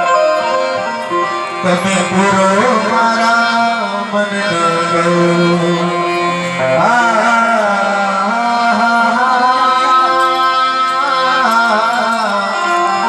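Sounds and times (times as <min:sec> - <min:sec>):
sustained instrumental drone: 0:00.0 - 0:13.0
person singing long wavering note: 0:01.6 - 0:13.0.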